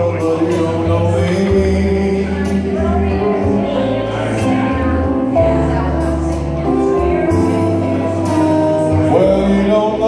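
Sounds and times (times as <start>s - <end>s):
slow ballad backing music: 0.0s - 10.0s.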